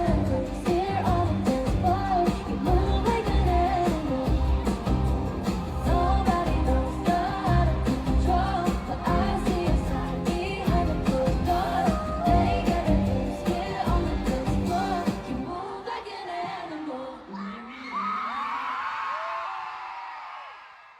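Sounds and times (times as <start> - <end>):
pop song with vocals: 0.0 - 20.7.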